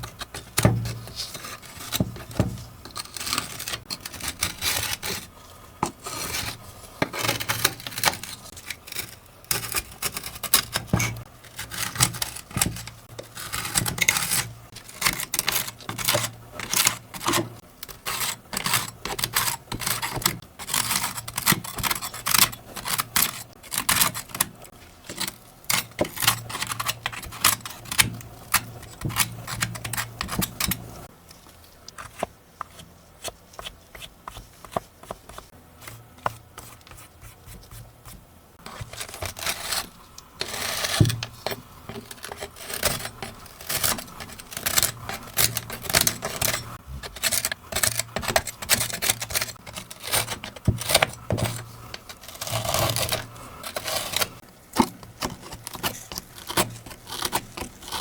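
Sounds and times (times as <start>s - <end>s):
scraping: 0.0s - 58.0s.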